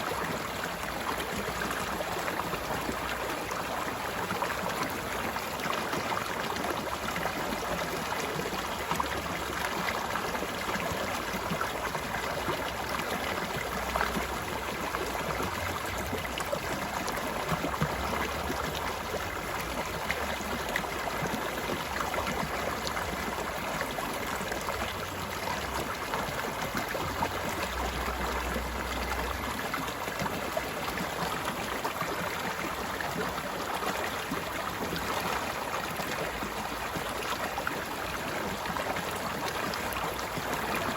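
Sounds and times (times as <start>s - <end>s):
stream of flowing water: 0.0s - 40.9s.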